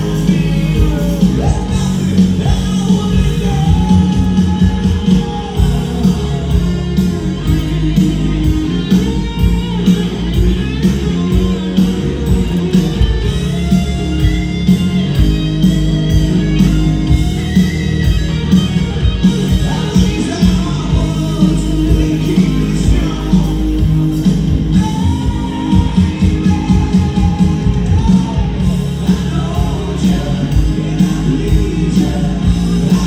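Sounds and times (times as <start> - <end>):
electric guitar: 0.0 - 33.0
live rock band playing: 0.0 - 33.0.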